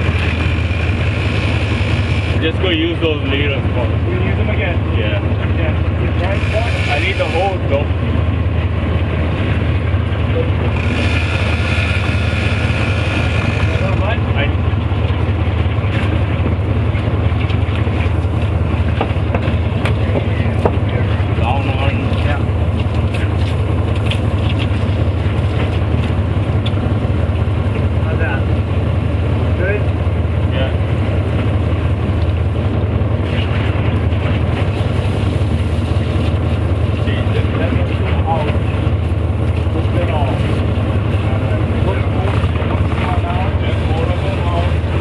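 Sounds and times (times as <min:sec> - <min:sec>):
boat engine rumbling: 0:00.0 - 0:45.0
wind buffeting microphone: 0:00.0 - 0:45.0.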